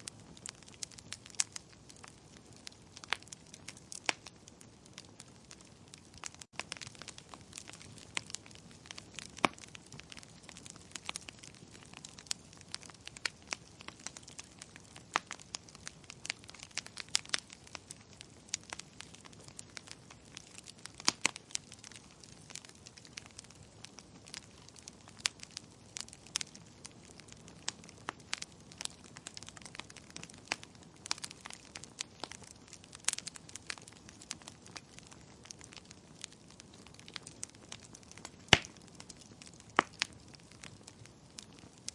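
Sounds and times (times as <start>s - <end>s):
burning logs crackling: 0.0s - 41.9s.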